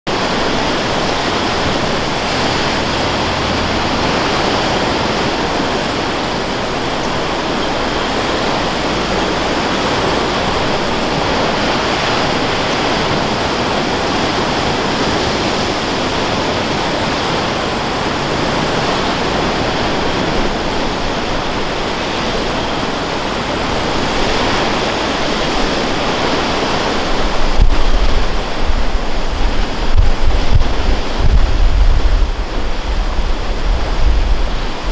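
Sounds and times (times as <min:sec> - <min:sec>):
surf breaking over rocky shore: 0:00.1 - 0:34.9
wind buffeting microphone: 0:00.1 - 0:34.9.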